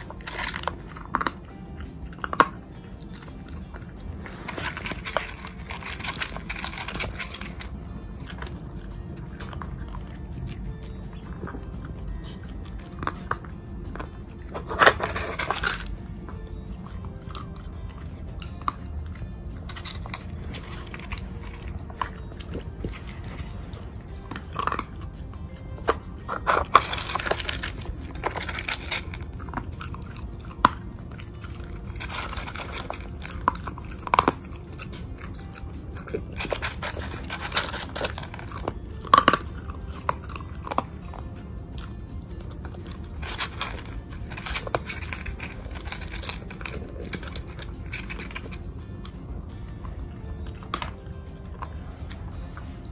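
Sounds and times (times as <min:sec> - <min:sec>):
dog crunching dry kibble: 0:00.0 - 0:52.9.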